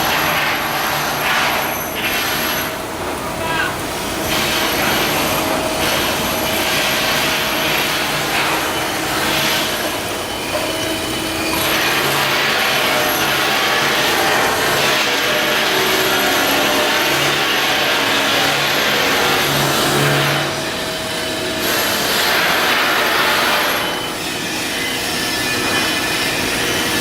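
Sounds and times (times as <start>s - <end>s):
machinery and power tools hissing: 0.0s - 27.0s.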